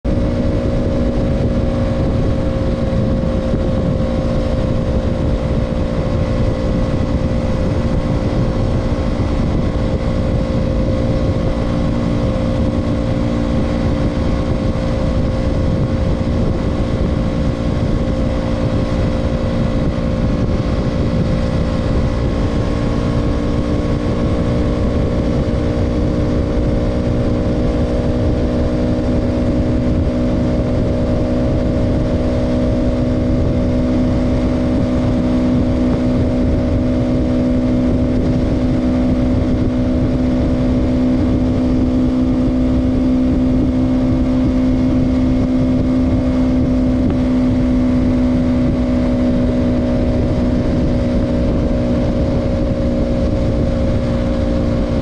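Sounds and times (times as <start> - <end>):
motorcycle engine cruising: 0.0 - 55.0
wind on microphone: 0.0 - 55.0.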